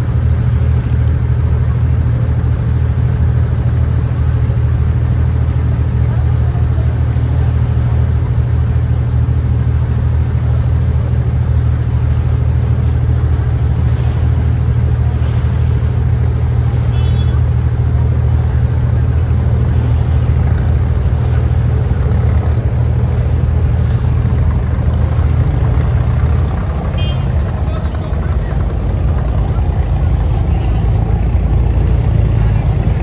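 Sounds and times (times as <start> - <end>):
engine running with low drone: 0.0 - 33.0.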